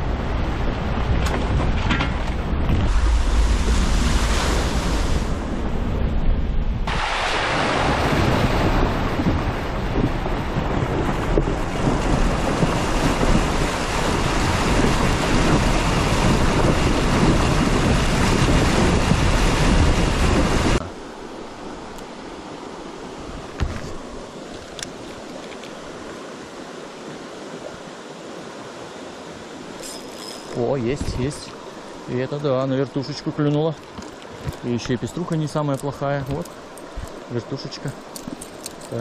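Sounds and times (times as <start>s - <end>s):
water rushing and splashing: 0.0s - 39.0s
river flowing: 2.4s - 39.0s.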